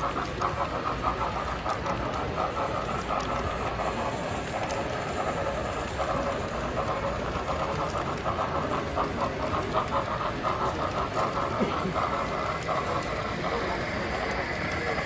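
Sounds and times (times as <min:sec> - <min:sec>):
model trains clattering: 0:00.0 - 0:15.0.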